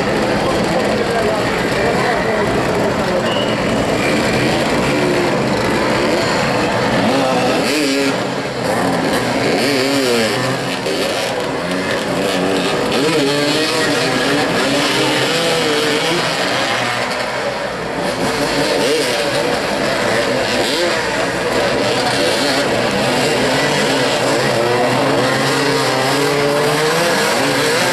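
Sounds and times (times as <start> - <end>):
motorcycle engines revving: 0.0 - 27.9.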